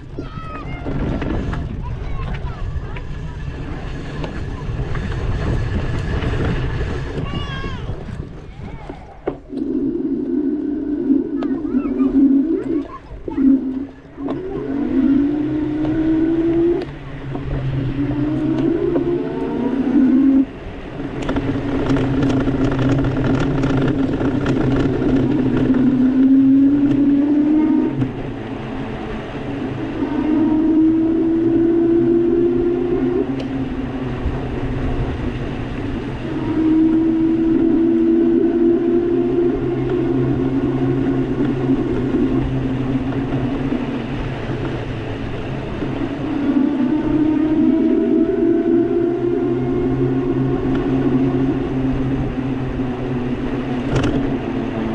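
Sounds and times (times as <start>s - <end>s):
steady rushing noise: 0.0s - 54.9s
electric motor whining: 9.1s - 54.9s.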